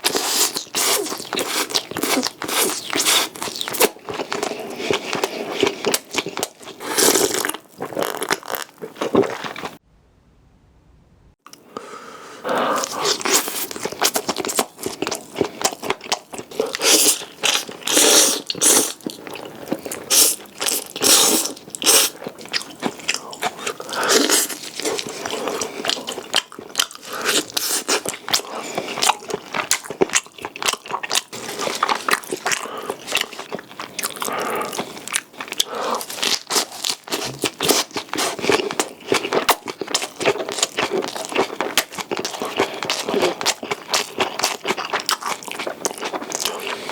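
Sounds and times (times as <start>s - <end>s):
person chewing with wet crunching: 0.0s - 9.8s, 12.4s - 46.9s.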